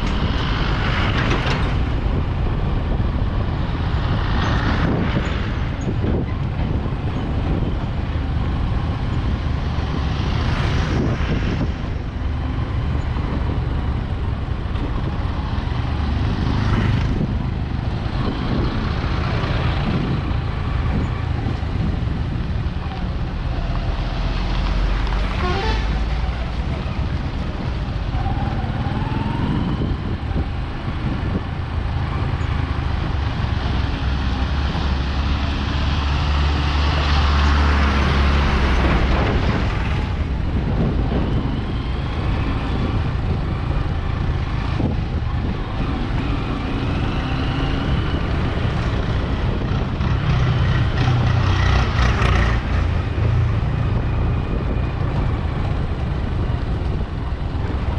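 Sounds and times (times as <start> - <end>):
highway traffic rumble: 0.0 - 57.9.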